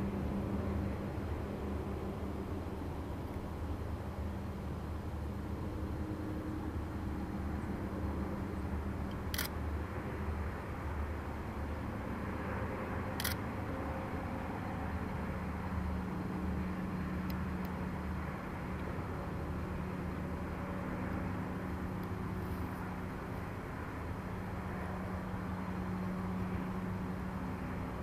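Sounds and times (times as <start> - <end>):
distant diesel locomotive rumble: 0.0 - 28.0.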